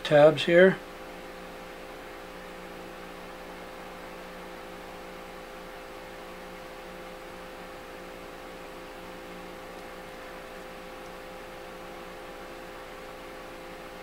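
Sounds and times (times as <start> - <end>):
electrical hum with hiss: 0.0 - 14.0.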